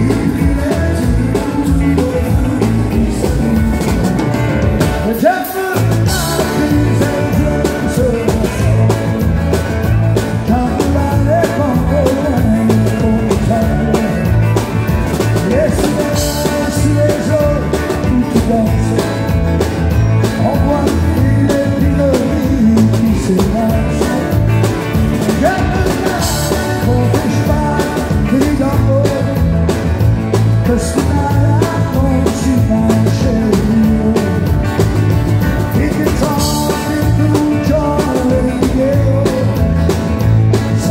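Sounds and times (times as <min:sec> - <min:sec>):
electric bass: 0:00.0 - 0:40.9
man singing: 0:00.0 - 0:40.9
strummed acoustic guitar: 0:00.0 - 0:40.9.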